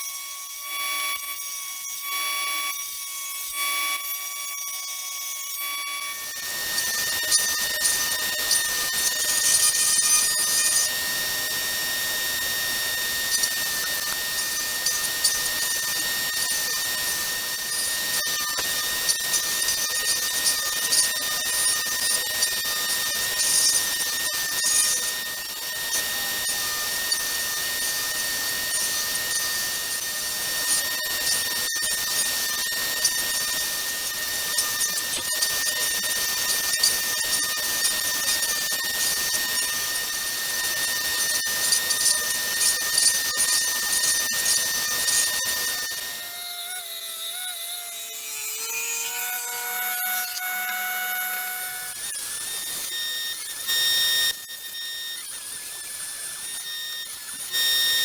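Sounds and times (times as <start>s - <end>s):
power tool cutting wood: 0.0s - 58.0s.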